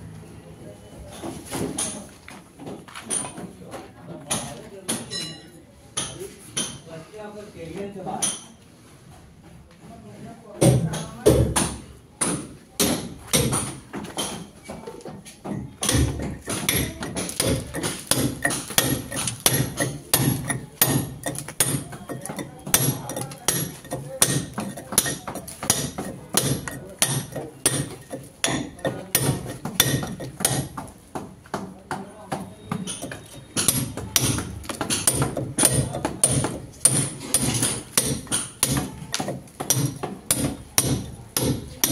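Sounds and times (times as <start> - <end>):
hammer on chisel into brick: 1.5 - 3.5, 4.3 - 5.2, 6.0 - 6.8, 8.2 - 8.6, 10.6 - 41.9.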